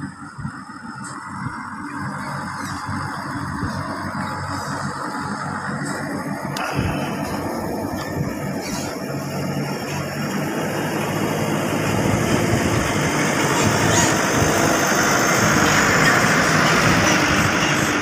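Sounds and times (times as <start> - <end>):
diesel truck passing: 0.0 - 18.0.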